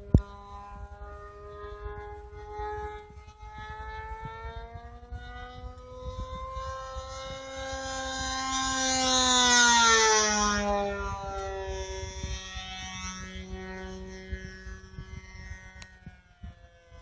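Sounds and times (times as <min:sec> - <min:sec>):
model plane engine whine flying past: 0:00.0 - 0:17.0.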